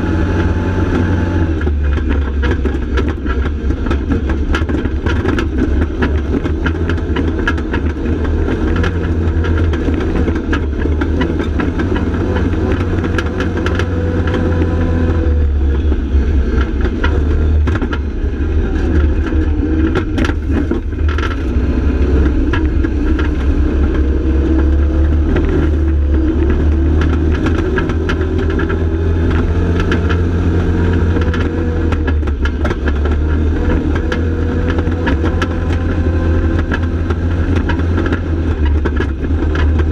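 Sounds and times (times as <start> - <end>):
utv engine running under load: 0.0 - 39.9
chassis rattling and knocking: 1.6 - 39.9.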